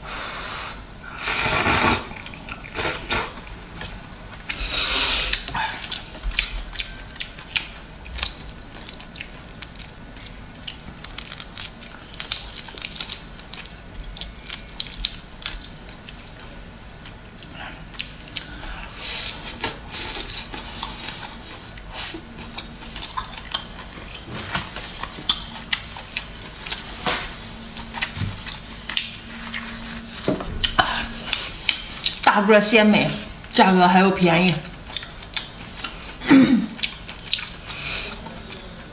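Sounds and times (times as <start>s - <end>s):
chewing: 2.1s - 32.2s, 34.6s - 38.9s.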